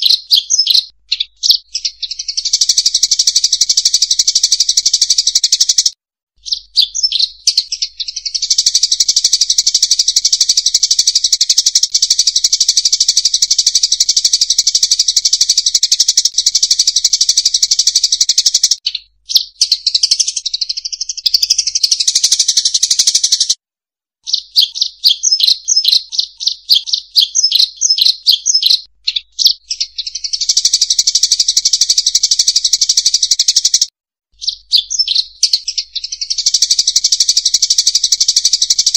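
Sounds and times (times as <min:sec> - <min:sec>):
bird chattering trill: 0:00.0 - 0:23.6, 0:24.2 - 0:38.9.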